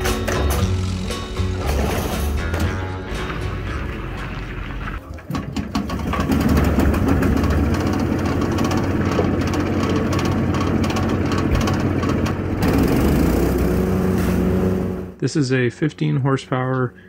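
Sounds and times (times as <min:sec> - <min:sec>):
wood chipper engine running: 0:00.0 - 0:15.2.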